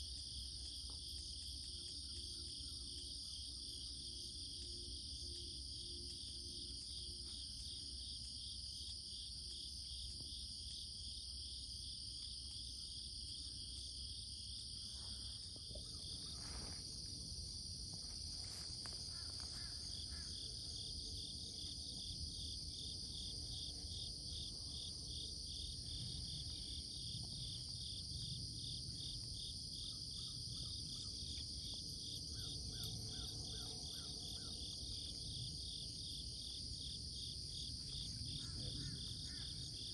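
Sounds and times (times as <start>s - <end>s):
insects high-pitched trill: 0.0s - 39.9s.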